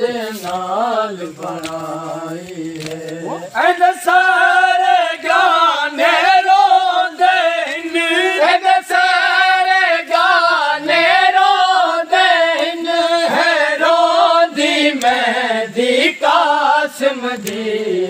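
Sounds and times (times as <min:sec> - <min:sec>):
men singing a lament together: 0:00.0 - 0:18.0.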